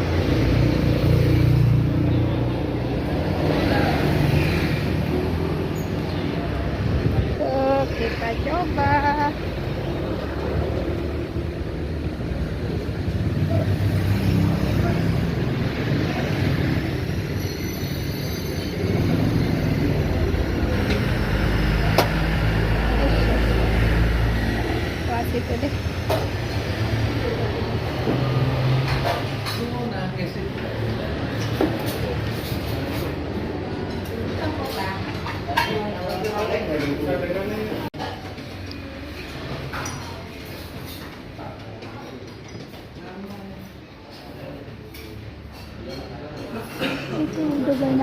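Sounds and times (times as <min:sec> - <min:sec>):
low rumble of road traffic: 0:00.0 - 0:48.0.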